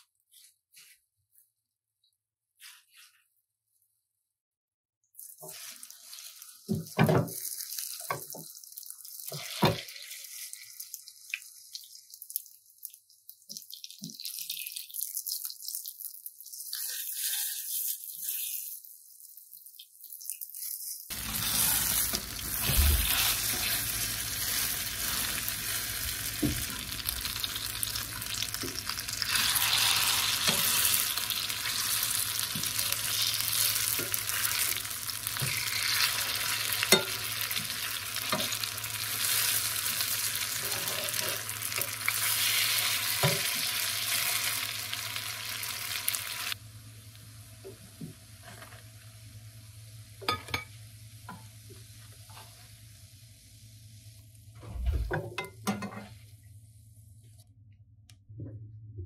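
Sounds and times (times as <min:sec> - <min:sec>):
patties sizzling in oil: 0:05.1 - 0:54.4.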